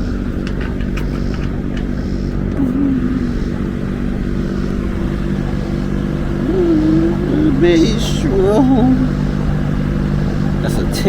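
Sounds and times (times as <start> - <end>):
electric fan motor hum: 0.0 - 11.0.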